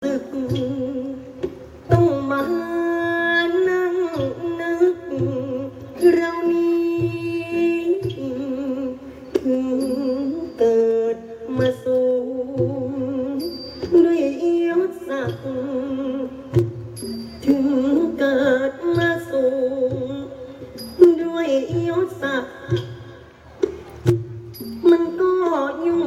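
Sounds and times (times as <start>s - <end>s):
person singing with vibrato: 0.0s - 23.5s, 24.6s - 26.0s.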